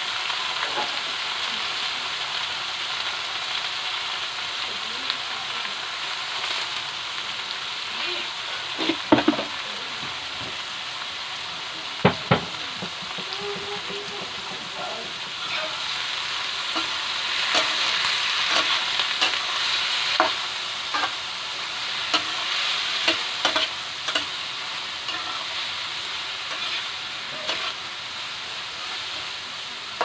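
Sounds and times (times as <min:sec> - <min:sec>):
vegetables sizzling in a frying pan: 0:00.0 - 0:30.0.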